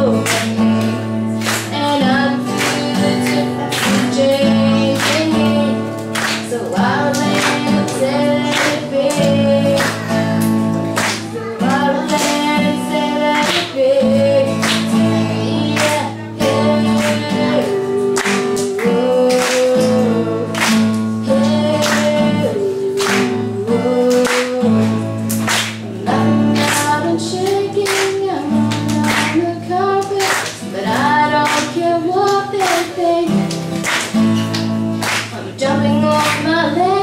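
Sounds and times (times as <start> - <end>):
woman singing worship song: 0.0 - 34.2, 35.1 - 37.0
acoustic guitar strumming: 0.0 - 37.0.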